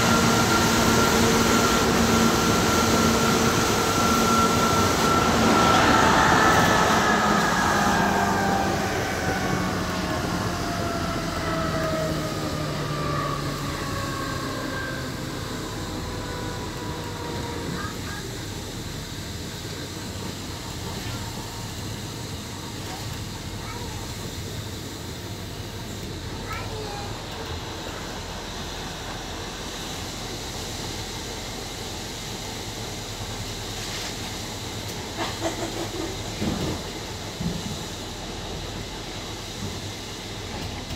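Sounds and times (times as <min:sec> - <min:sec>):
electric train drive whining: 0:00.0 - 0:33.6
wheels rumbling on rail: 0:00.0 - 0:40.9.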